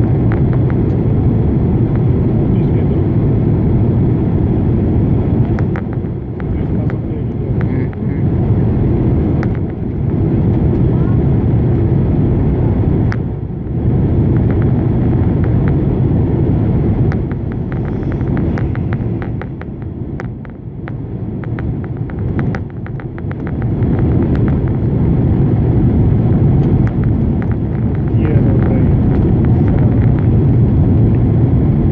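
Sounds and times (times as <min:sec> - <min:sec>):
airplane cabin rumble: 0:00.0 - 0:31.9.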